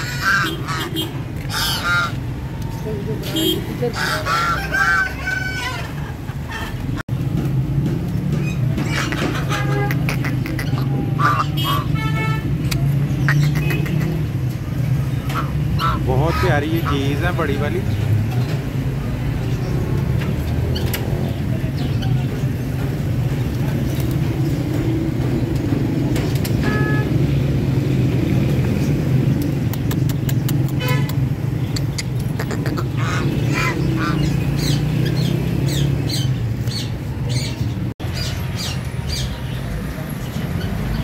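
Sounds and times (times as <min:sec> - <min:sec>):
caged birds squawking: 0:00.0 - 0:07.0, 0:08.3 - 0:27.2, 0:28.6 - 0:41.0
road traffic rumble: 0:00.0 - 0:41.0.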